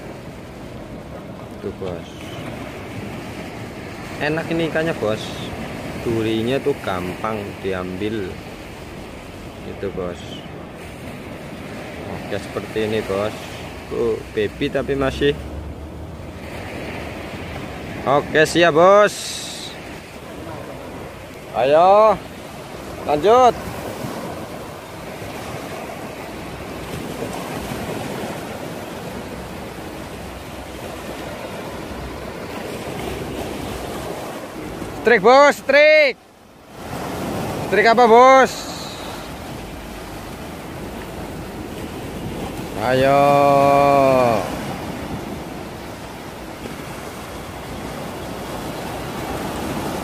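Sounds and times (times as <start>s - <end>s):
waves washing up a sandy beach: 0.0s - 50.0s.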